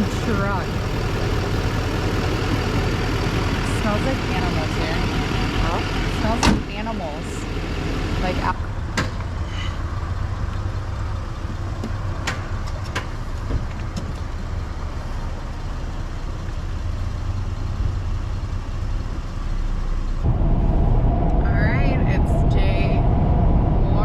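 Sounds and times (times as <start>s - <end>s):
loud engine rumble: 0.0s - 24.0s
vehicle engine idling: 0.0s - 24.0s.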